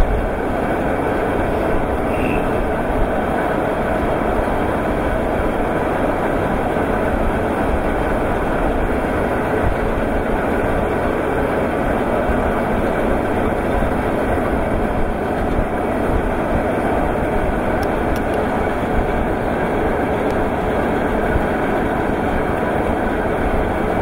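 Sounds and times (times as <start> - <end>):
machinery and conveyor rumbling: 0.0 - 24.0.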